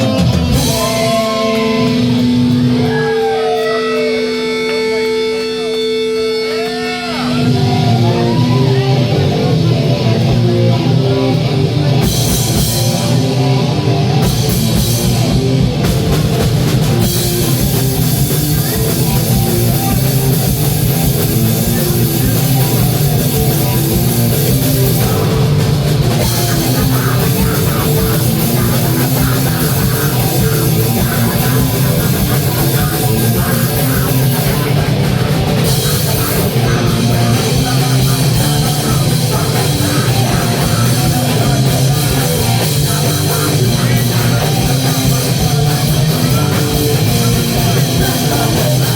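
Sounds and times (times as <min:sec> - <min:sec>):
distorted electric guitar: 0:00.0 - 0:48.9
drum kit: 0:00.0 - 0:48.9.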